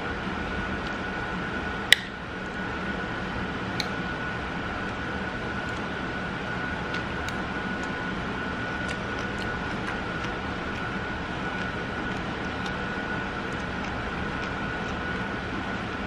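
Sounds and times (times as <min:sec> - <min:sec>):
machine hum with high whine: 0:00.0 - 0:16.0.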